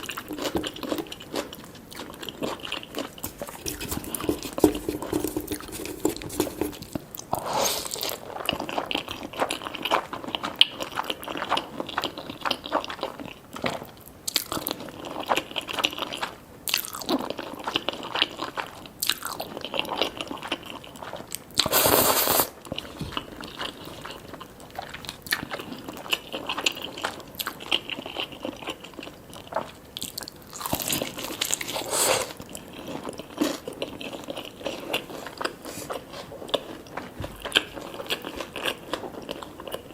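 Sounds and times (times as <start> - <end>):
crunchy chewing of fried chicken: 0.0 - 39.9.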